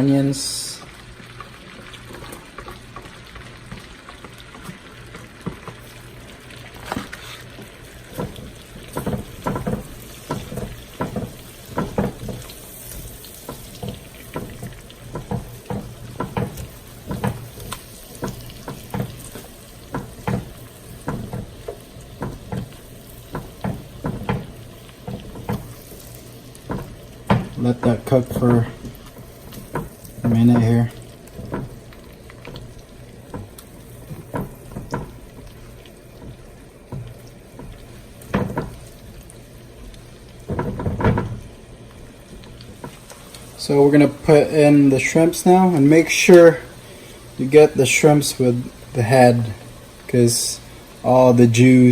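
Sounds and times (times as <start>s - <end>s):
garlic and onions frying in butter: 0.0s - 51.9s
utensil stirring and knocking on pan: 1.8s - 6.0s, 6.8s - 50.7s.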